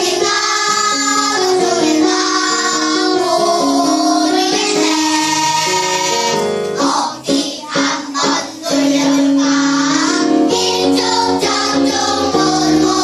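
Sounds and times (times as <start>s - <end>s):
children singing with music: 0.0s - 13.0s.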